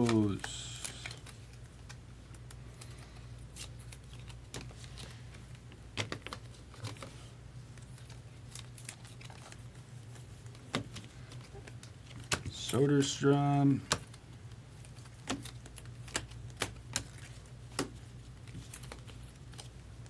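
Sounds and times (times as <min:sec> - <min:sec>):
trading cards clicking and rustling: 0:00.0 - 0:20.0.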